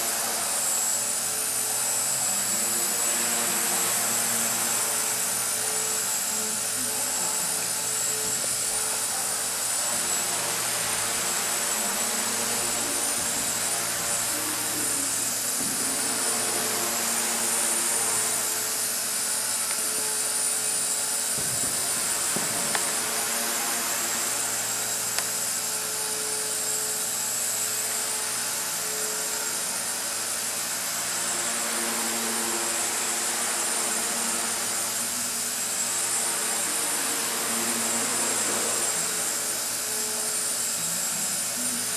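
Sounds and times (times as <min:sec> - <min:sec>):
rc helicopter rotors whining: 0:00.0 - 0:41.9.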